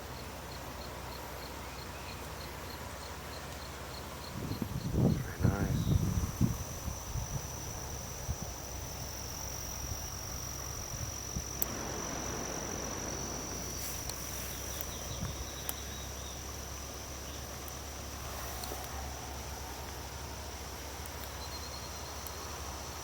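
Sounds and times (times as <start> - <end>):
insects droning: 0.0 - 23.0
faint low rumble: 4.2 - 22.8.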